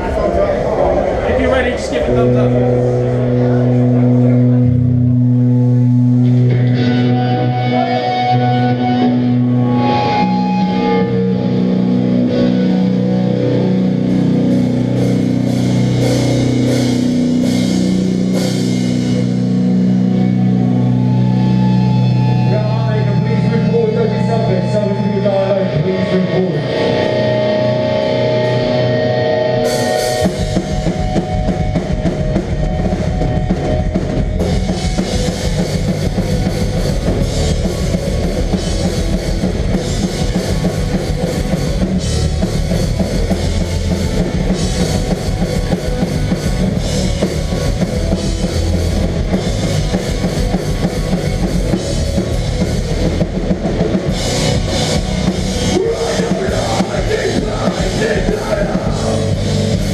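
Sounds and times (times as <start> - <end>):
bass: 0.0 - 59.9
distorted guitars: 0.0 - 59.9
heavy drums: 0.0 - 59.9
ringing guitar chords: 1.0 - 59.9.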